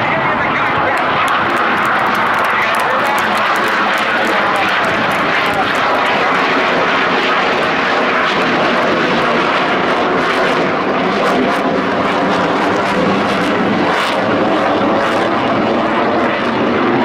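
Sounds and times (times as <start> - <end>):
fighter jet engine noise: 0.0 - 17.0.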